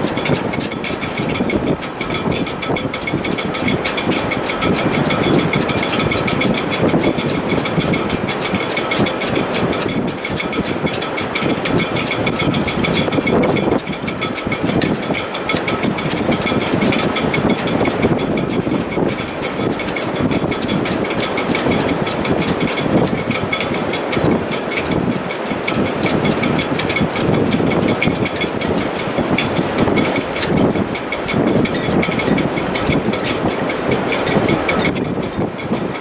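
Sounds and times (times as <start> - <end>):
rigging fluttering: 0.0 - 36.0
rushing wind: 0.0 - 36.0.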